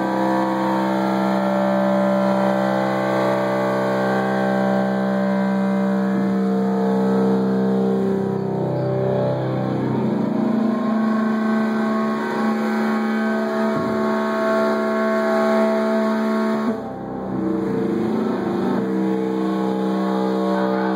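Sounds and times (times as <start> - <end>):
distorted electric guitar drone: 0.0 - 20.9.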